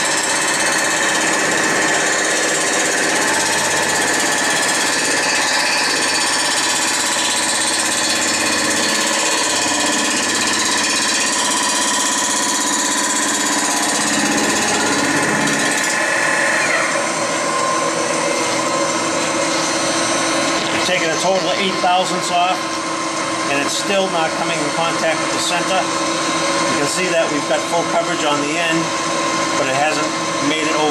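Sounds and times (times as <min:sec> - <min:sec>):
high machine whine: 0:00.0 - 0:30.9
milling machine cutting metal: 0:00.0 - 0:30.9.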